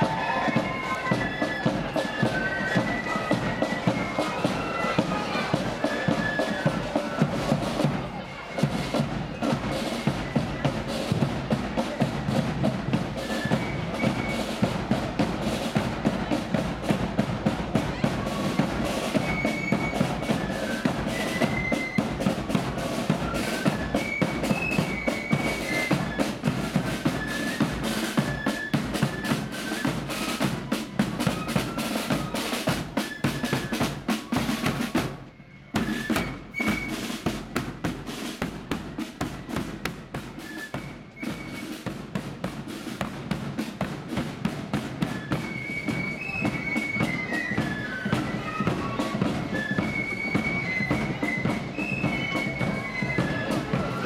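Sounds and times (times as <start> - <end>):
flutes playing melody: 0.0 - 42.5, 44.5 - 54.0
side drums rolling: 0.0 - 54.0.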